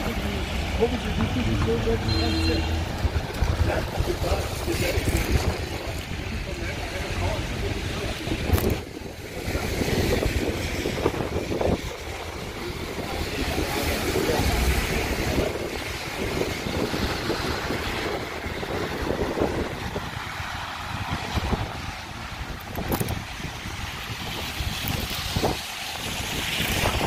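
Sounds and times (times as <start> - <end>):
heavy rain hiss: 0.0 - 27.0
wind buffeting microphone: 0.0 - 27.0.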